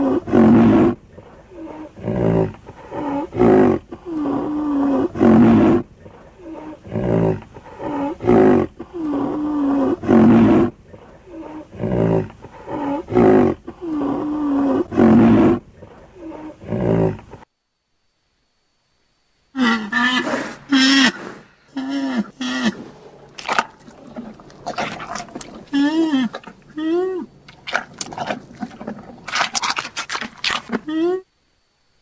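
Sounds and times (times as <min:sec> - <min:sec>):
rhinoceros calling: 0:00.0 - 0:17.3, 0:19.6 - 0:31.2.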